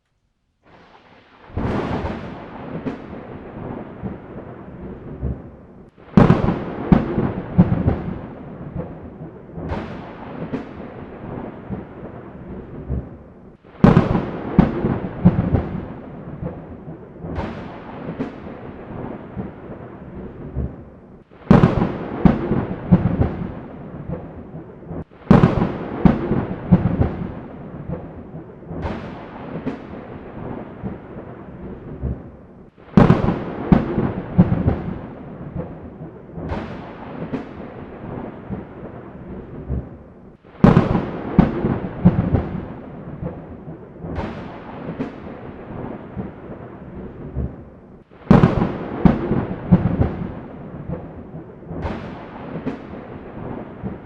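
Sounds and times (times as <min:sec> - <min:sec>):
thunder cracks and rumble: 0:00.7 - 0:54.0.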